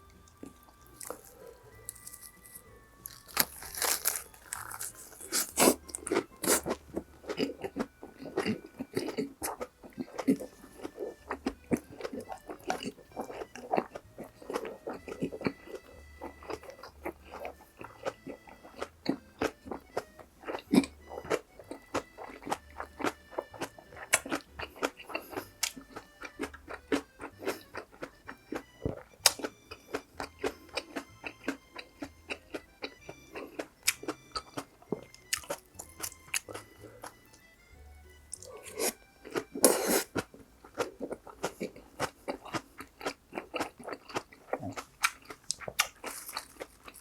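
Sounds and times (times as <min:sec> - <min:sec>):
close chewing and crunching: 0:00.0 - 0:47.0
quiet background music: 0:00.0 - 0:47.0.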